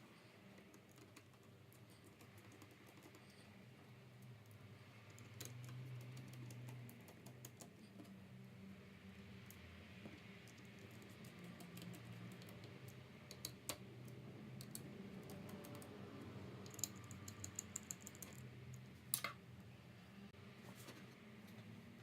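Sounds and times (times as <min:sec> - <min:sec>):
small tools clicking on laptop: 0:00.4 - 0:08.2, 0:09.4 - 0:19.4.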